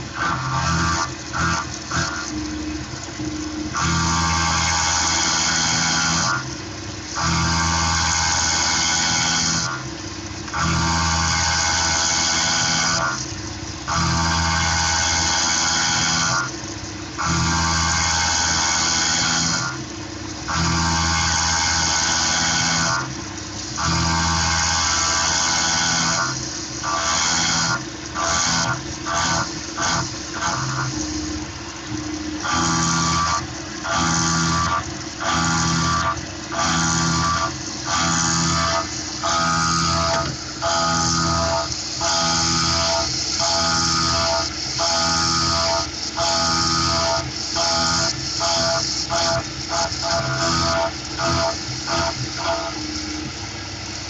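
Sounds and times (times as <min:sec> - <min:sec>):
end mill cutting aluminum: 0:00.0 - 0:54.0.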